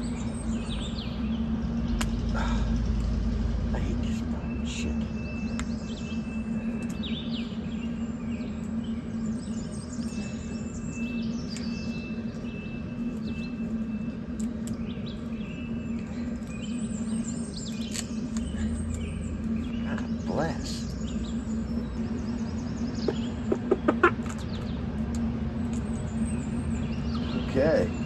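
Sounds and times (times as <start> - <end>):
birds chirping and singing: 0.0 - 28.0
steady low hum: 0.0 - 28.0.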